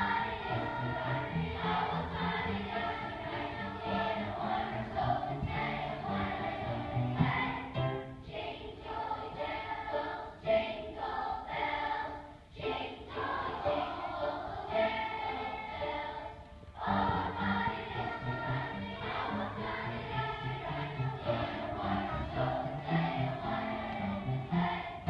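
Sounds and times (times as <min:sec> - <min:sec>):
children's choir singing: 0:00.0 - 0:25.0.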